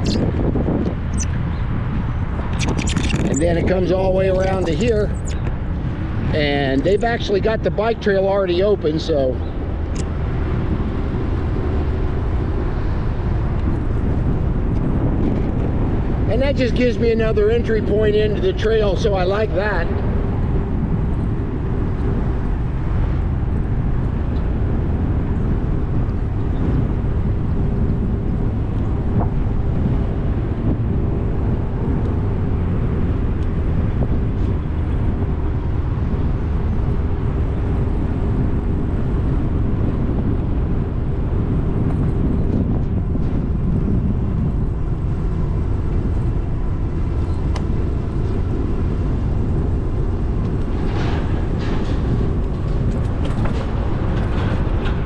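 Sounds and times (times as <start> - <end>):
electric bike rolling noise: 0.0 - 55.0
wind rushing: 0.0 - 55.0.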